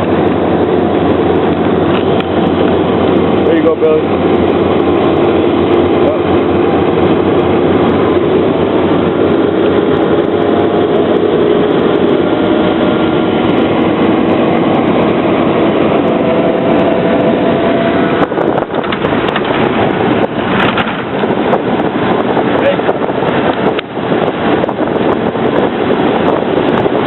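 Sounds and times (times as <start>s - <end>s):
faint humming drone: 0.0s - 22.4s
vehicle engine and road noise: 0.0s - 27.0s.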